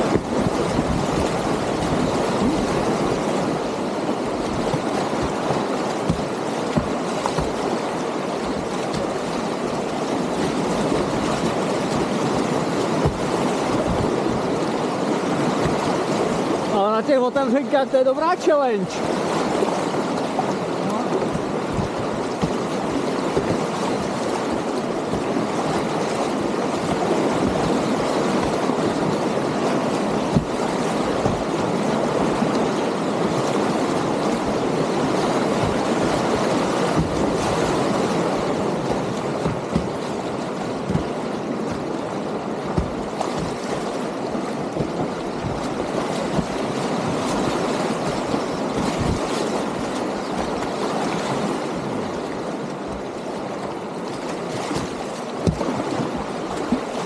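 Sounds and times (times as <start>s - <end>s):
kayak knocks and splashes: 0.0s - 57.0s
whitewater rapids rushing: 0.0s - 57.0s.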